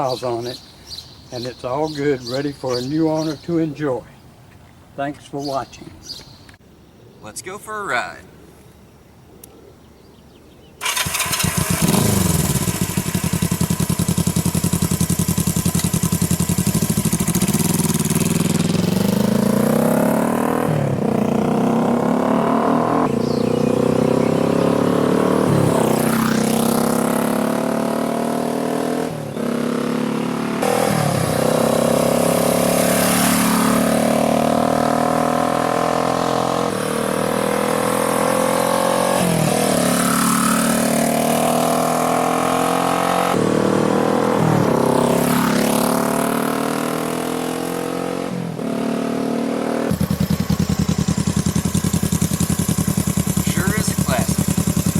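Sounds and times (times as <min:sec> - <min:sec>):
motorcycle engine starting and revving: 0:10.8 - 0:54.9.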